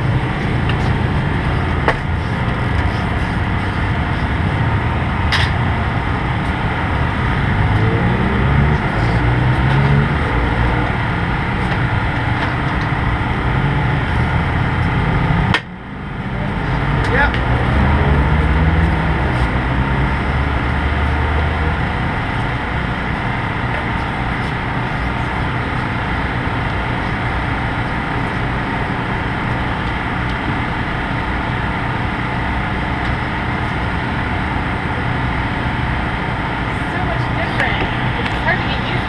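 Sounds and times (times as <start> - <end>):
deep low rumble: 0.0 - 39.0
mechanical engine hum: 0.0 - 39.0.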